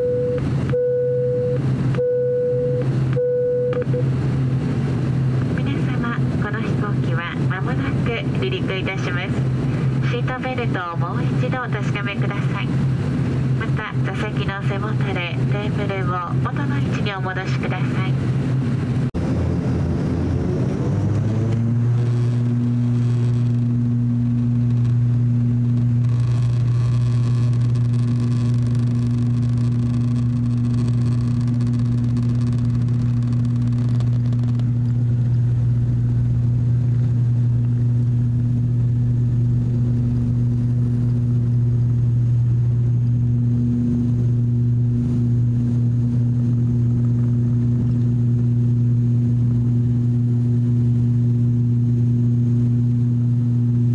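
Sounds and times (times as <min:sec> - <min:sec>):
propeller engine drone: 0:00.0 - 0:53.9.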